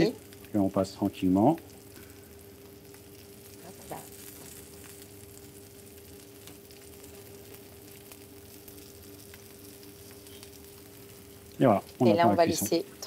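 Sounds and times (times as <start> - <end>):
fish frying in oil: 0.0 - 13.0
steady hum: 0.0 - 13.0.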